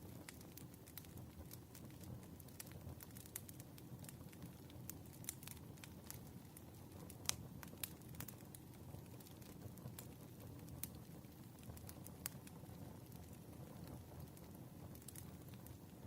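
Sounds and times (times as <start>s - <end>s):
firewood crackling and popping: 0.0s - 16.0s
low steady fire rush: 0.0s - 16.0s.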